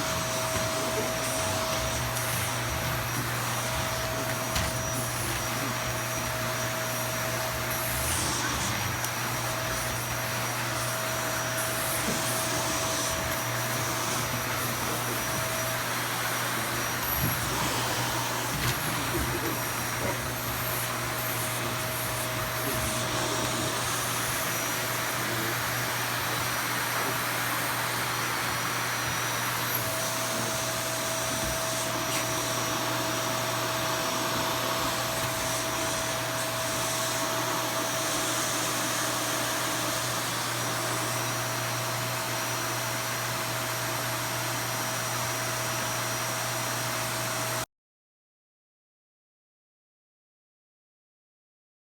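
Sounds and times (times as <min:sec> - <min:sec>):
vacuum cleaner running: 0:00.0 - 0:47.6.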